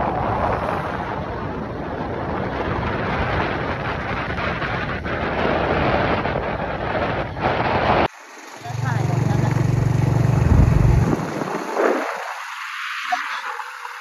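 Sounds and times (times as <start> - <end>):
road and vehicle noise: 0.0 - 14.0
wind rushing over microphone: 0.0 - 14.0.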